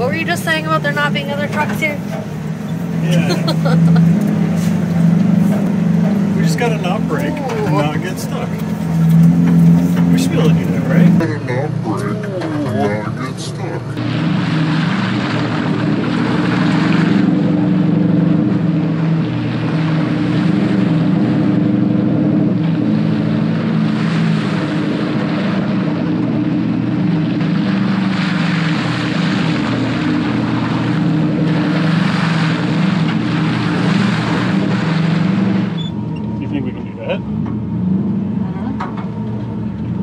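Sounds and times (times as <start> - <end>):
truck engine under load: 0.0 - 40.0.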